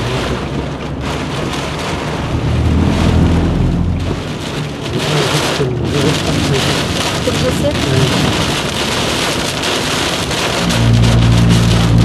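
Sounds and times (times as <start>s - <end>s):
heavy rain on car roof: 0.0s - 12.0s
low rumble: 0.0s - 12.0s.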